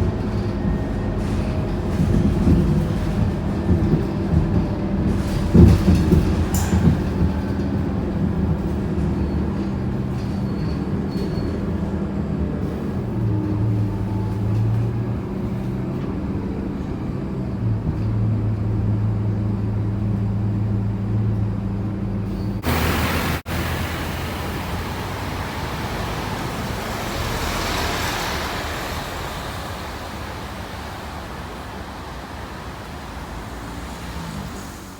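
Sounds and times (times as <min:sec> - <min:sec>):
bus diesel engine humming: 0:00.0 - 0:34.9
road and traffic noise: 0:00.0 - 0:34.9.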